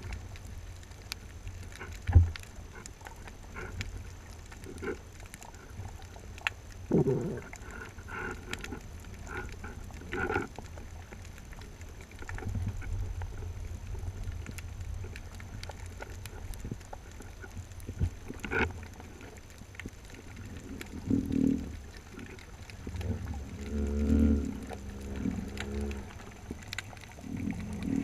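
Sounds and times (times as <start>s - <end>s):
faint clicks: 0.0s - 28.0s
underwater water rumble: 0.0s - 28.0s.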